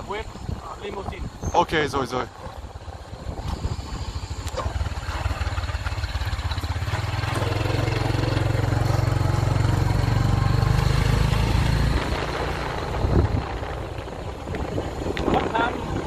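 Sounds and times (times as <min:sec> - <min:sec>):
motorbike engine running: 0:02.3 - 0:16.0.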